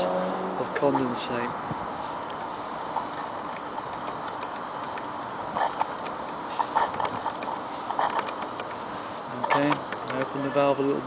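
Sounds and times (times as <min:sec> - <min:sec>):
steady steam hiss: 0:00.0 - 0:11.0.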